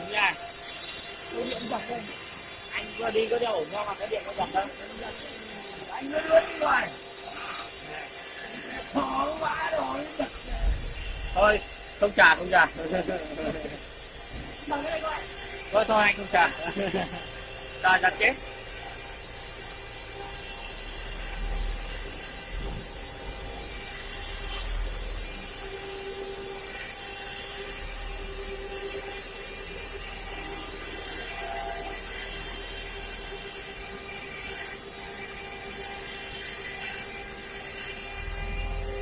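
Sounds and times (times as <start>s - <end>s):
carving machine spindle running: 0.0s - 39.0s.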